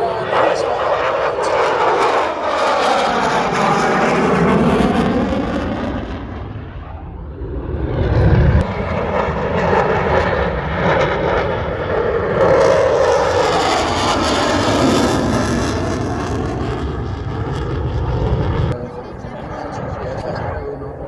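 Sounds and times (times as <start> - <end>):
fighter jet flying past: 0.0 - 21.0.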